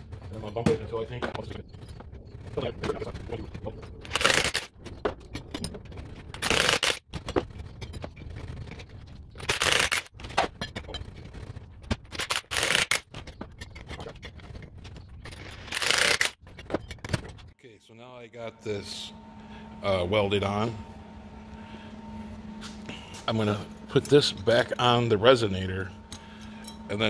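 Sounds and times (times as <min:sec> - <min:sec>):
tool and pipe handling noise: 0:00.0 - 0:17.6, 0:21.4 - 0:27.0.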